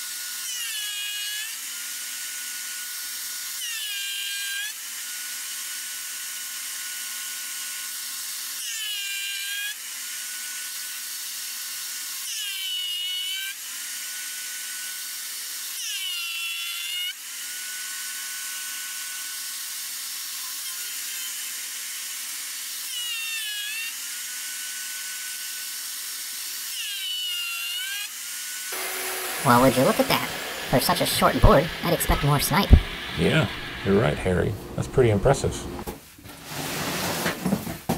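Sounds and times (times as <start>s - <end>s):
thickness planer cutting wood: 0.0s - 34.4s.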